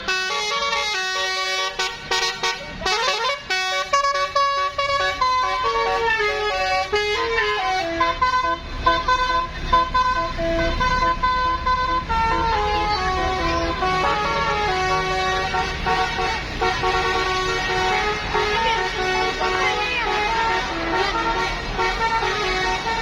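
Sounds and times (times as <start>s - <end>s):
low engine rumble: 0.0s - 23.0s
multi-tone bus horn melody: 0.0s - 23.0s.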